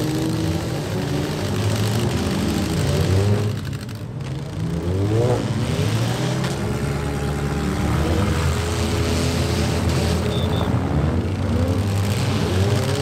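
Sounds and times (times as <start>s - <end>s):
car engines running together: 0.0s - 13.0s
engine revving: 0.0s - 13.0s.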